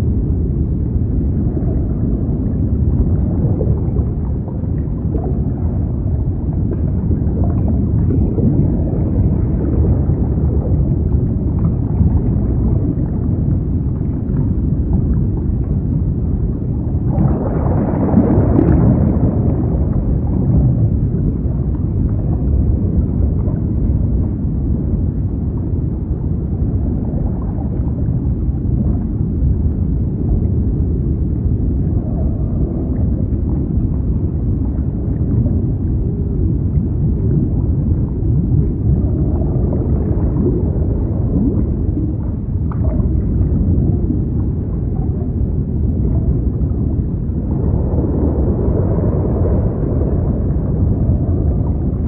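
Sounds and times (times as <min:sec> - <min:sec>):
muffled underwater rumble: 0:00.0 - 0:52.0.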